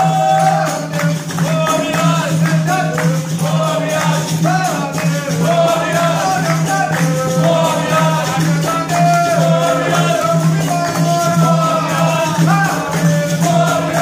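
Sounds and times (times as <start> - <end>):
berimbaus with shakers: 0.0 - 14.0
group singing call and response: 0.0 - 14.0
hand drum rhythm: 0.0 - 14.0
people clapping: 0.0 - 14.0.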